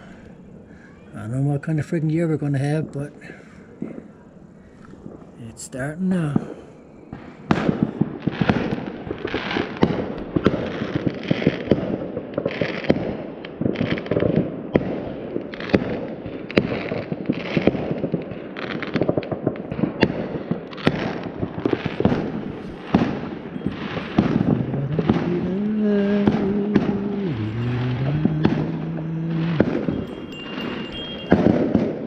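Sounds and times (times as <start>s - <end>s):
fireworks crackling: 0.0s - 32.0s
fireworks popping and banging: 0.0s - 32.0s.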